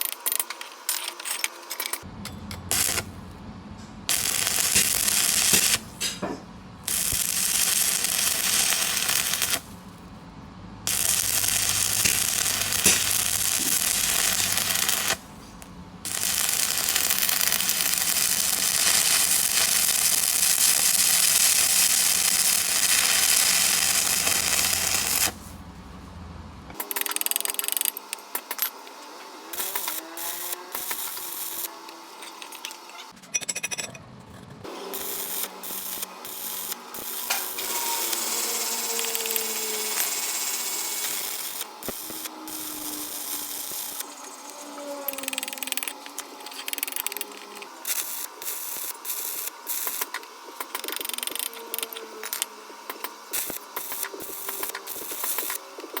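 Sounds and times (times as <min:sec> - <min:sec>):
low electrical hum: 0:00.0 - 0:26.8, 0:28.0 - 0:56.0
welding arc crackling and hissing: 0:02.6 - 0:03.3, 0:04.0 - 0:10.1, 0:10.9 - 0:25.6, 0:29.4 - 0:33.0, 0:34.7 - 0:56.0.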